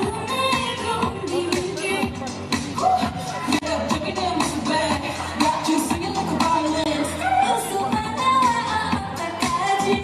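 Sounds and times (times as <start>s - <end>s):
dance backing track: 0.0s - 10.0s
female vocals: 0.0s - 10.0s.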